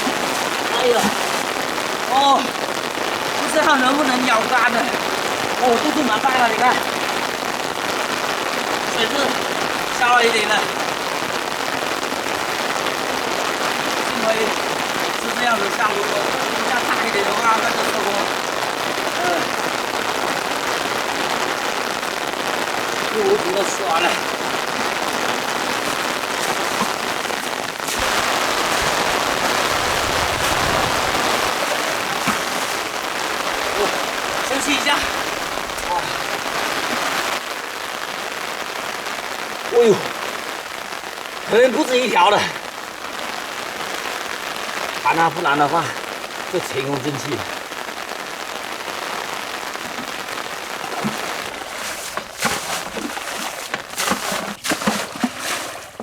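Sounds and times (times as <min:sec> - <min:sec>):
water splashes: 0:00.0 - 0:37.7, 0:39.6 - 0:56.0
rain falling: 0:00.0 - 0:56.0.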